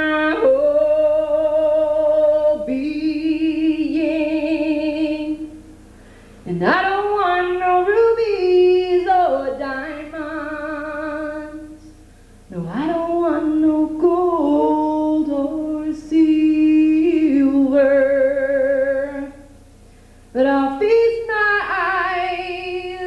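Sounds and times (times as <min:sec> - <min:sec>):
woman singing folk song: 0:00.0 - 0:05.6, 0:06.4 - 0:19.5, 0:20.3 - 0:23.0.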